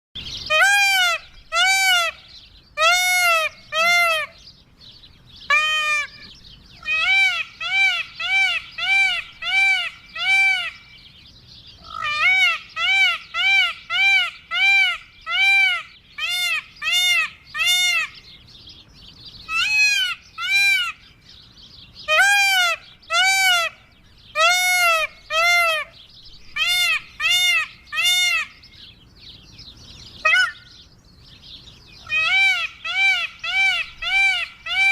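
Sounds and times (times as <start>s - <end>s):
peacock calling: 0.2s - 34.9s.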